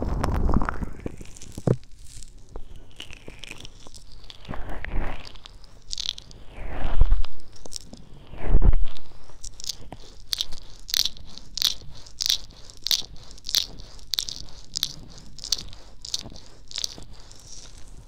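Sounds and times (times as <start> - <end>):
fingertips stroking microphone: 0.0 - 18.0.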